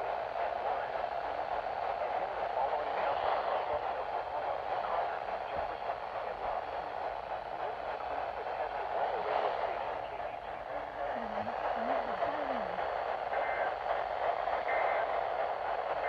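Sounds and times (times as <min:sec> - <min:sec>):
muffled voice on radio: 0:00.0 - 0:16.0
radio static hiss: 0:00.0 - 0:16.0.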